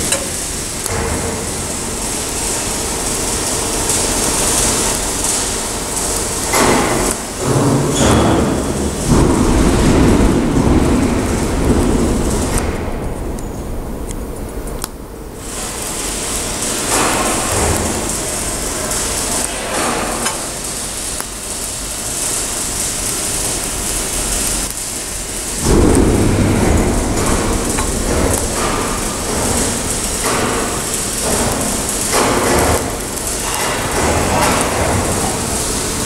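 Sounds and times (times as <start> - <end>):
welding arc hissing buzz: 0.0 - 36.0.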